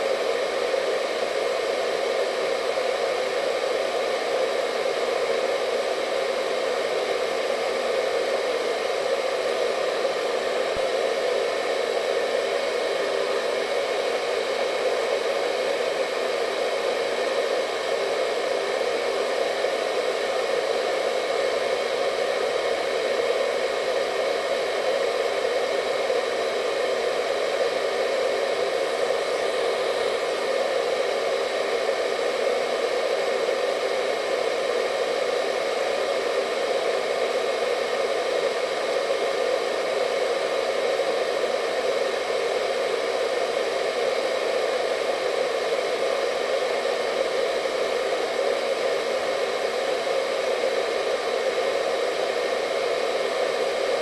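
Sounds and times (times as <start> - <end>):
hair dryer blowing air: 0.0 - 54.0.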